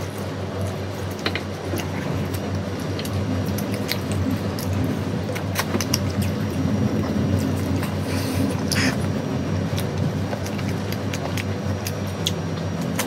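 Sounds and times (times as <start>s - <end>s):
chewing and mouth sounds: 0.0s - 13.0s
steady low hum: 0.0s - 13.0s.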